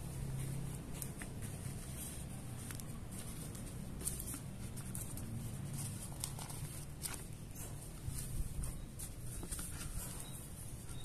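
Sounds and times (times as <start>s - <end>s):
paper and marker clicks and rustles: 0.0s - 11.0s.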